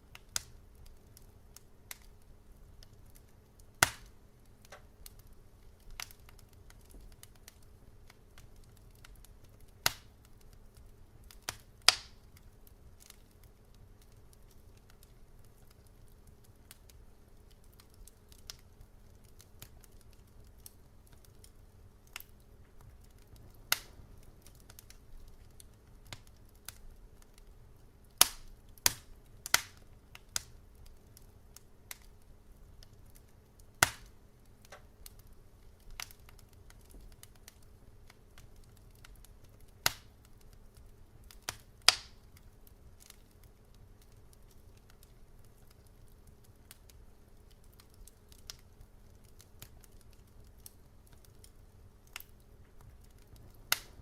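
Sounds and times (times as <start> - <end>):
low steady rumble: 0.0 - 47.7, 48.7 - 54.0
wood fire crackling: 0.0 - 54.0.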